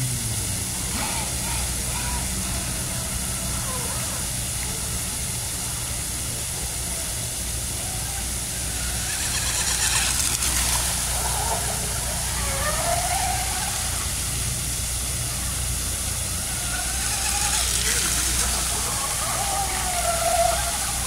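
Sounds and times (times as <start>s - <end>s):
electric boat motor: 0.0s - 21.0s
hull spray: 0.0s - 21.0s.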